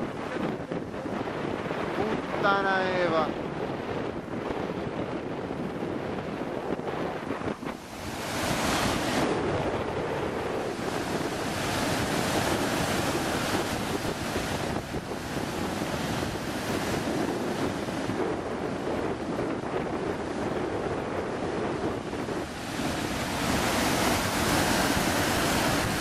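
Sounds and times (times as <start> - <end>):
surf breaking on shore: 0.0 - 26.0
wind buffeting microphone: 0.0 - 26.0.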